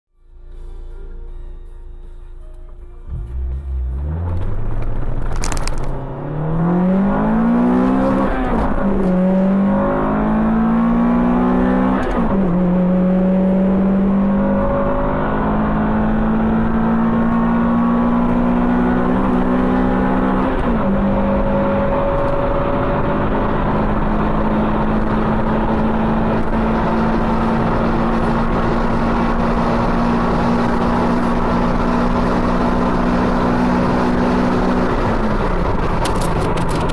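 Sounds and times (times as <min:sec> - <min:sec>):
car engine accelerating: 0:02.6 - 0:36.9.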